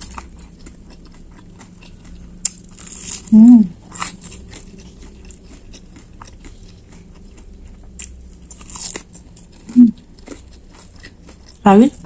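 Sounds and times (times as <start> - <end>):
chewing crispy food crunches: 0.0 - 12.0.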